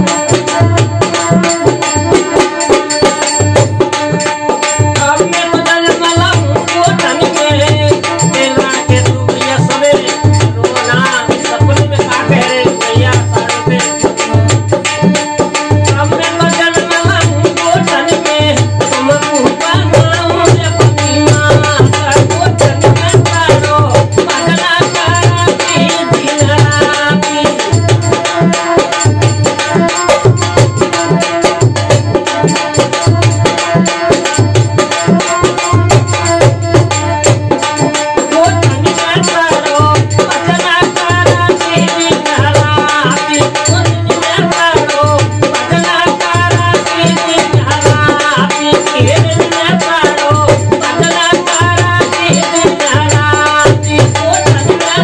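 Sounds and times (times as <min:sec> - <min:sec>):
hand drum beat: 0:00.0 - 0:55.0
harmonium: 0:00.0 - 0:55.0.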